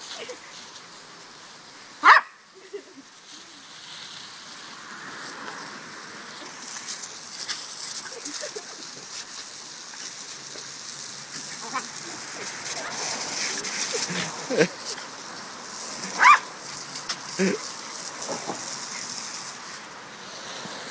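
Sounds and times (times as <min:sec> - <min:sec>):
garden hose spraying water: 0:00.0 - 0:20.9.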